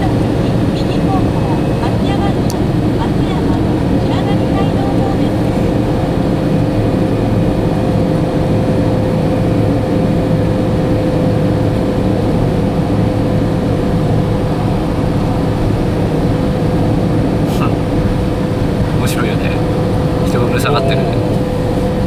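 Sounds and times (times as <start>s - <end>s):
car tyre and engine noise: 0.0s - 22.0s
steady whine: 0.0s - 22.0s.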